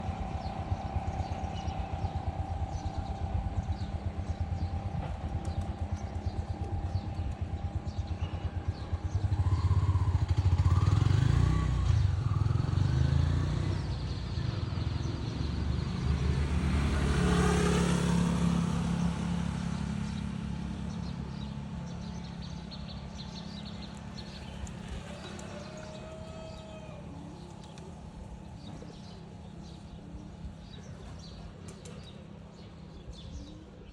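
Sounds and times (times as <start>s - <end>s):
birds chirping: 0.0s - 15.6s, 20.0s - 33.9s
motor vehicle engine passing by: 0.0s - 33.9s.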